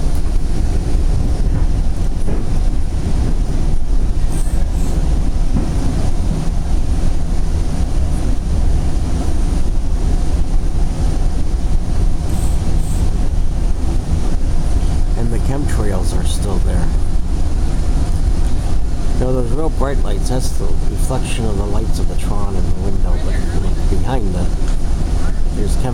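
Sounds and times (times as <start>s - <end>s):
train coach rumbling at speed: 0.0s - 25.9s.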